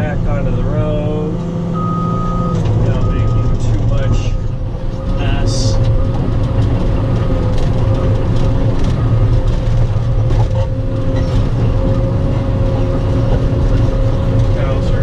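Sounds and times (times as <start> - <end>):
excavator diesel engine rumble: 0.0 - 15.0.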